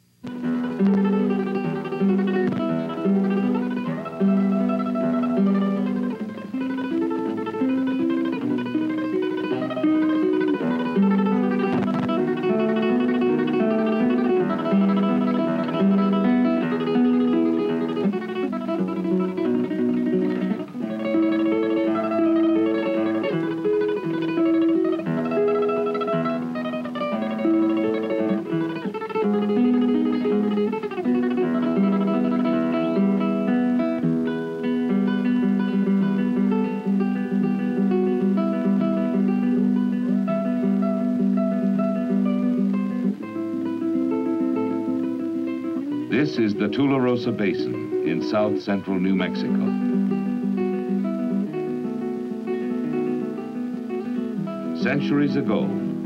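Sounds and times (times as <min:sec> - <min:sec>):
flamenco guitar music: 0:00.0 - 0:56.0.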